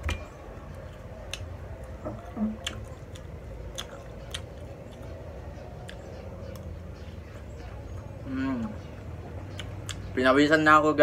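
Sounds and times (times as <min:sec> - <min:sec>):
person chewing food: 0:00.0 - 0:10.1.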